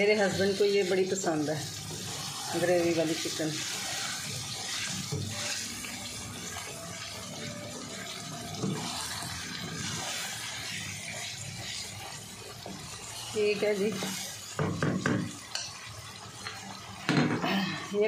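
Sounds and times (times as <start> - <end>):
wooden spatula stirring: 0.0 - 14.6
curry sizzling in a pan: 0.0 - 18.0.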